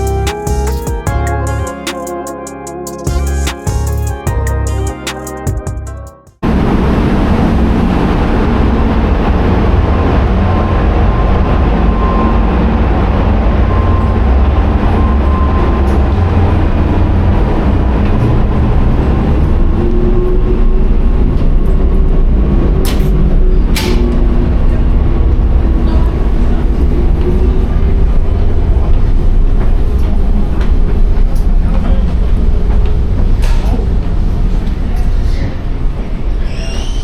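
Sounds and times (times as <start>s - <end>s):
ferry engine rumble and drone: 0.0s - 36.4s.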